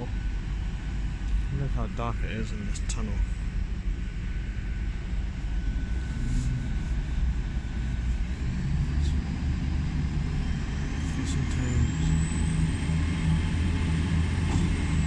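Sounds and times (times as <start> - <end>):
faint steady whine: 0.0 - 15.0
train diesel engines rumbling: 0.0 - 15.0.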